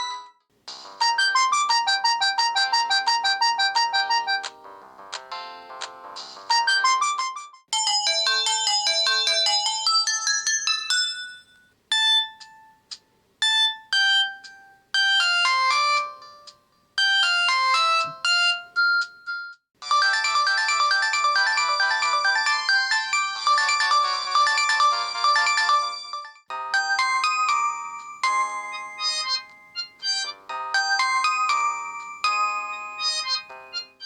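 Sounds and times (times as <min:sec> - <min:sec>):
mobile phone ringtones: 0:00.0 - 0:12.8, 0:13.4 - 0:34.0.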